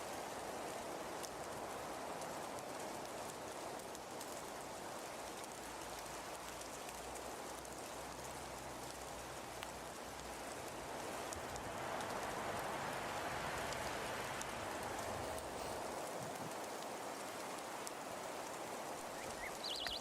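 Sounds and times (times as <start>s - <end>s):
pattering hiss with light ticks: 0.0s - 20.0s.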